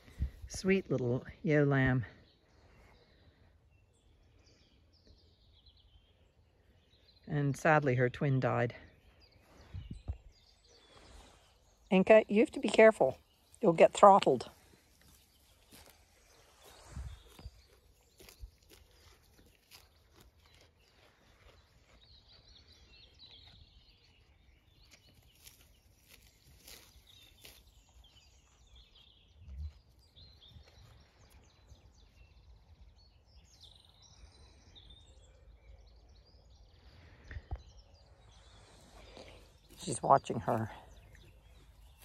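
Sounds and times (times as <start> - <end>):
faint birdsong chirping: 0.0 - 42.0.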